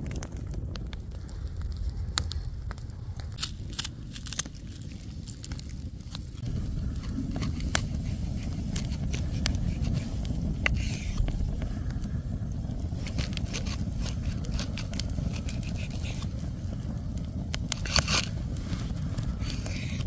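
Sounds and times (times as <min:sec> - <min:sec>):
wind rumble on microphone: 0:00.0 - 0:20.0
wood fire crackling: 0:00.0 - 0:20.0.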